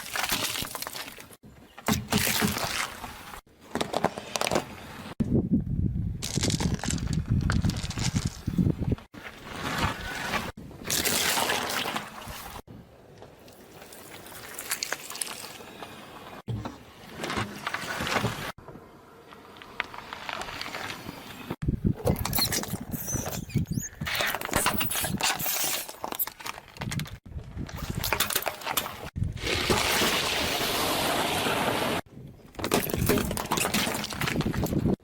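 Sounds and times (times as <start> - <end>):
objects crunching under car tyres: 0.0 - 5.2, 6.2 - 12.7, 13.5 - 18.7, 19.3 - 23.0, 24.0 - 35.0.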